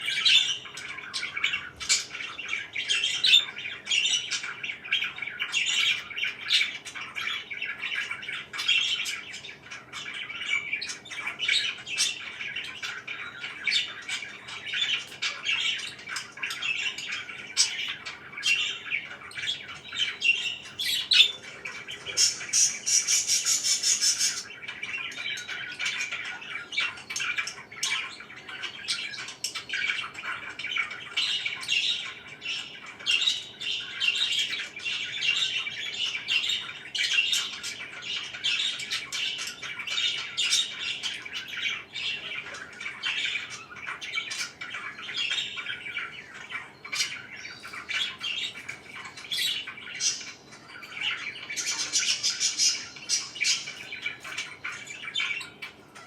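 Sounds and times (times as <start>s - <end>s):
parakeets chirping and squawking: 0.0s - 56.0s.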